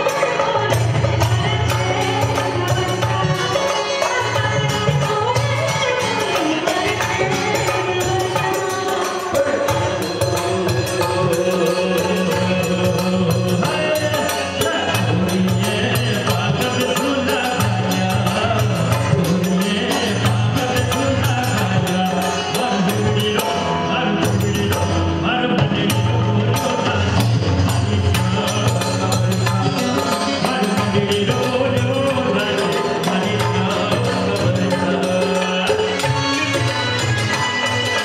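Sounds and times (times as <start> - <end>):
dholak drum: 0.0 - 38.0
jingling percussion: 0.0 - 38.0
keyboard: 0.0 - 38.0
man singing into a microphone: 0.0 - 38.0.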